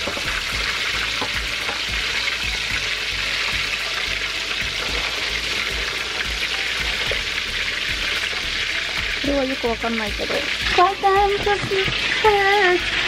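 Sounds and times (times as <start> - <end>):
cutlets sizzling in hot oil: 0.0 - 13.0.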